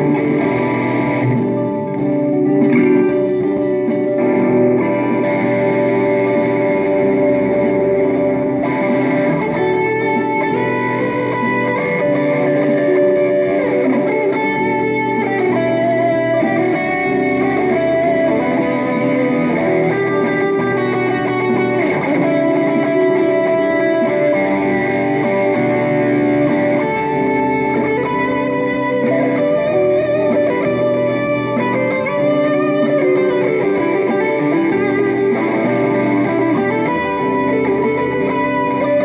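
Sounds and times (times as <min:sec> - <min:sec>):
electric guitar lead line: 0:00.0 - 0:39.0.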